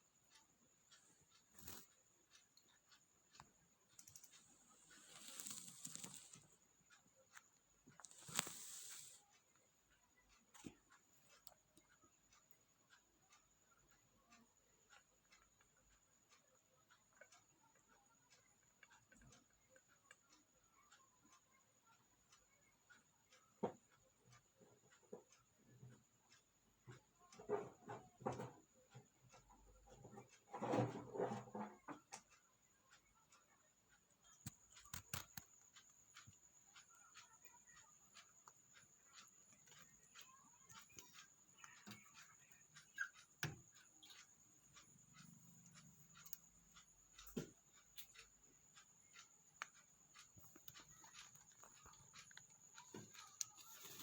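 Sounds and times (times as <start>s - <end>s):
quiet room hiss: 0.0s - 54.0s
small clicks and taps: 0.0s - 54.0s.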